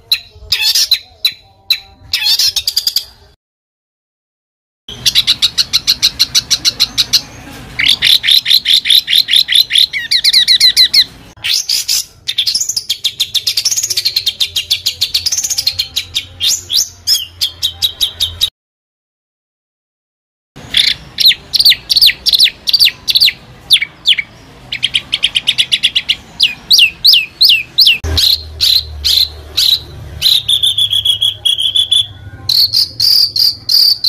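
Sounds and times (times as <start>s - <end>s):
songbird singing: 0.0s - 3.4s, 4.9s - 18.5s, 20.6s - 34.0s.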